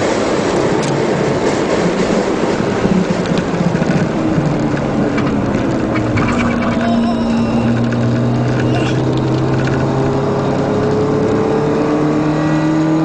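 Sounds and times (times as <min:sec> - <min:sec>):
race car engine running hard: 0:00.0 - 0:13.0
wind and road noise: 0:00.0 - 0:13.0.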